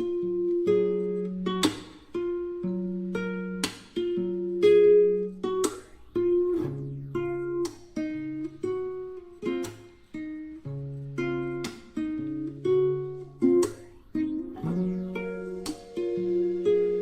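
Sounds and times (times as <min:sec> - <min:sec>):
acoustic guitar picking and strumming: 0:00.0 - 0:17.0.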